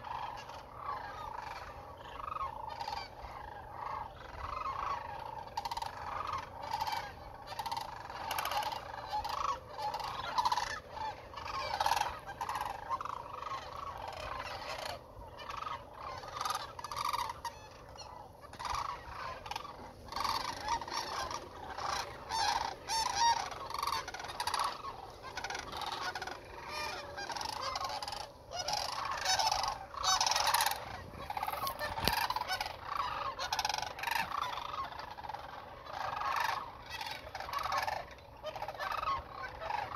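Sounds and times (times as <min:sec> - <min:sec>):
flock of cranes calling: 0:00.0 - 0:39.9.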